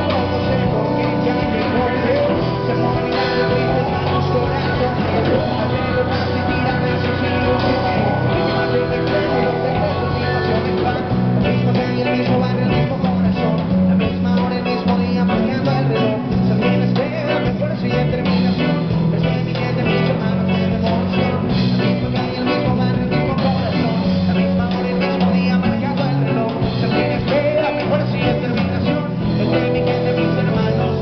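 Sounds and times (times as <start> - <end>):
live rock band playing: 0.0 - 31.0.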